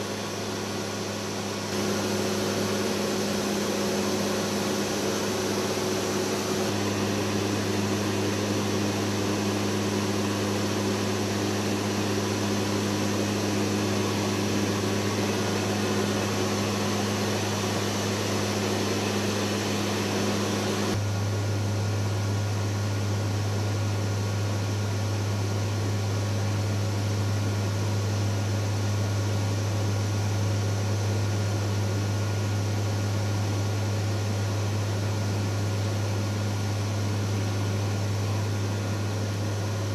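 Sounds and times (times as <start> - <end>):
turboprop engines droning in flight: 0.0 - 39.9.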